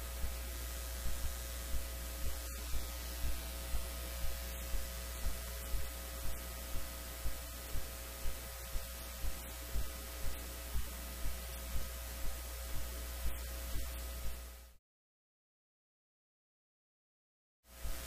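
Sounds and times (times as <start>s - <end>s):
electrical hum and hiss: 0.0s - 14.8s, 17.7s - 18.0s.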